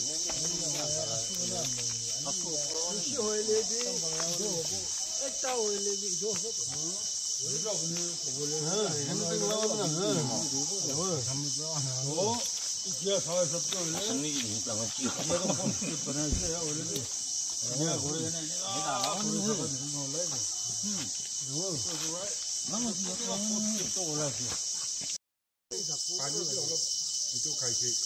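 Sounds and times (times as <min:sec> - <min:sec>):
people talking indistinctly: 0:00.0 - 0:24.6, 0:25.7 - 0:28.0
insects chirping: 0:00.0 - 0:28.0.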